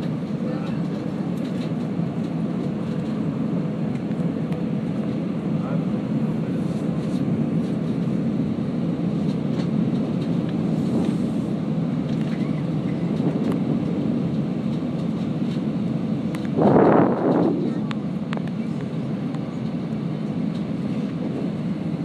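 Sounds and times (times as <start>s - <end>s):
jet engine and air rumble: 0.0s - 22.0s.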